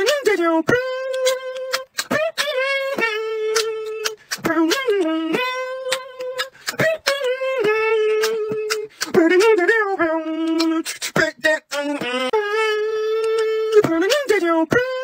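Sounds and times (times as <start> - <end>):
mouth clicks and pops: 0.0 - 15.0
person beatboxing sung notes: 0.0 - 15.0.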